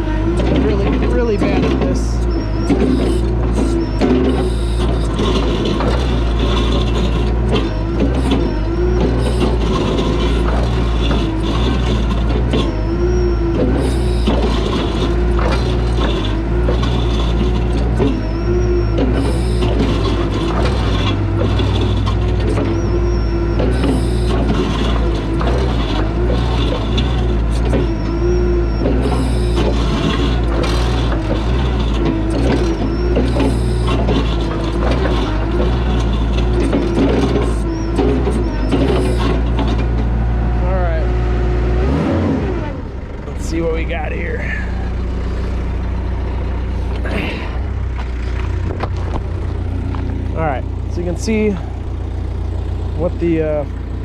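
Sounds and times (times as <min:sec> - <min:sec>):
bucket and linkage clanks: 0:00.0 - 0:40.2, 0:46.4 - 0:54.0
diesel skid steer engine hum: 0:00.0 - 0:54.0.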